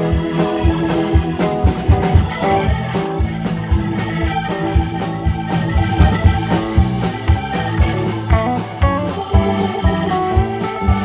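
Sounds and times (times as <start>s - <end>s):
drum beat: 0.0s - 11.0s
electric guitar: 0.0s - 11.0s
organ: 0.0s - 11.0s.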